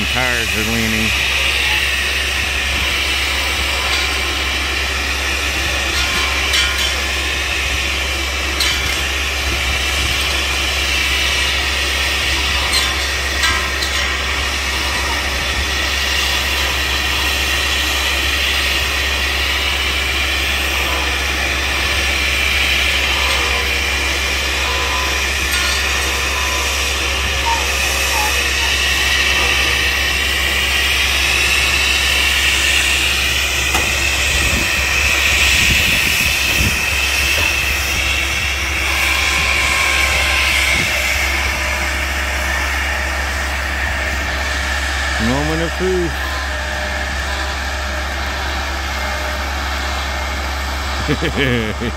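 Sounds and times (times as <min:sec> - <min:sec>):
machine drone with high whine: 0:00.0 - 0:51.9.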